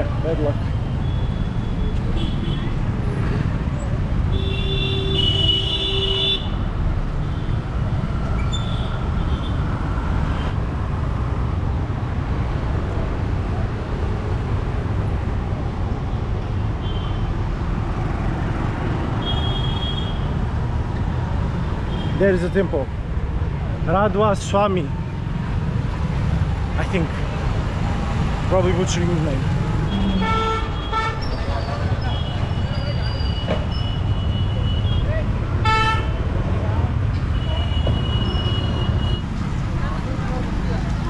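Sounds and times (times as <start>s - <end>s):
street traffic rumble: 0.0s - 41.0s.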